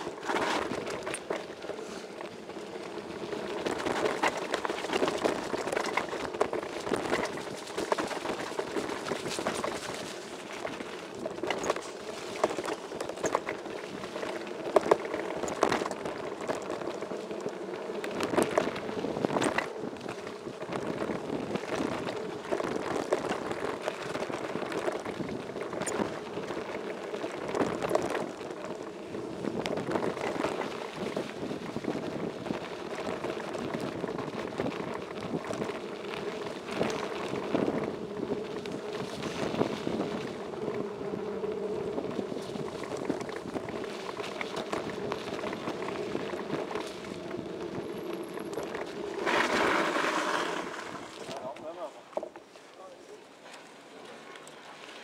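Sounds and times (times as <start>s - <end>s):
bike tyres crunching on gravel: 0.0s - 55.0s.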